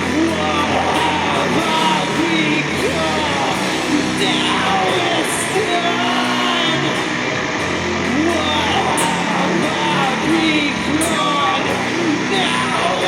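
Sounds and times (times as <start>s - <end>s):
distorted guitars and bass: 0.0s - 13.0s.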